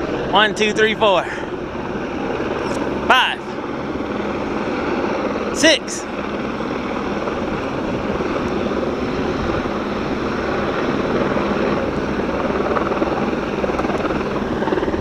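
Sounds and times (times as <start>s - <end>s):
helicopters flying past: 0.0s - 15.0s.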